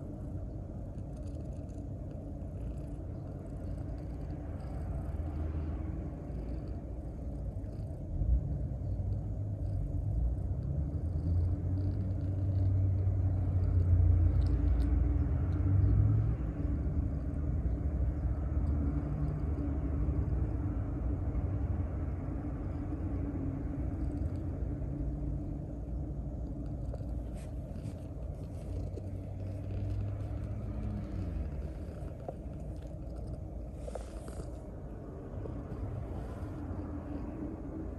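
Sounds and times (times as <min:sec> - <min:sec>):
cat purring: 0:00.0 - 0:37.9.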